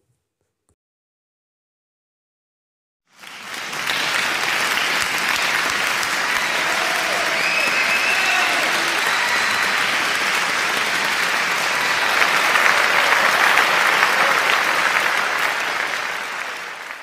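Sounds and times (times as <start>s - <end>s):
crowd applauding: 3.1s - 17.0s.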